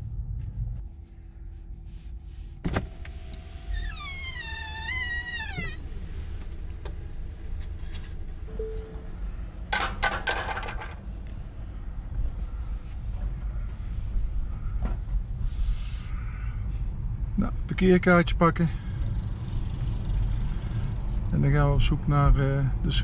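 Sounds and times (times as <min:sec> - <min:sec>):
electric car road rumble: 0:02.0 - 0:09.7, 0:11.0 - 0:23.0.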